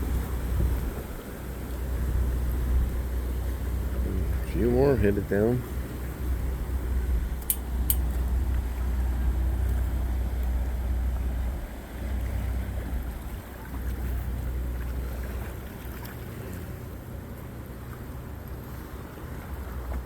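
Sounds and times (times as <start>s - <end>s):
motorboat engine drone: 0.0s - 20.0s
water wash: 0.0s - 20.0s.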